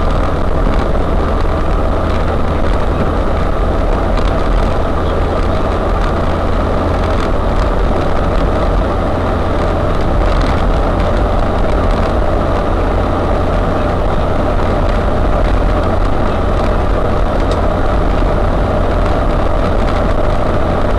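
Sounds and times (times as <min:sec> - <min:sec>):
van engine droning: 0:00.0 - 0:20.9.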